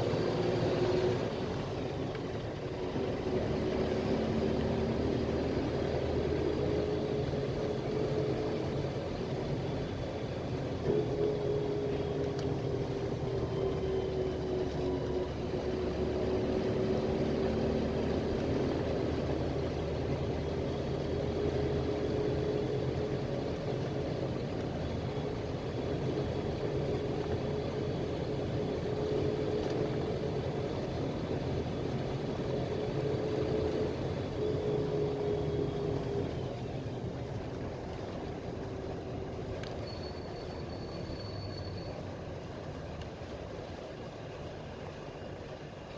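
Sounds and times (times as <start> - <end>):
bus engine drone: 0.0 - 45.9
road noise: 0.0 - 45.9.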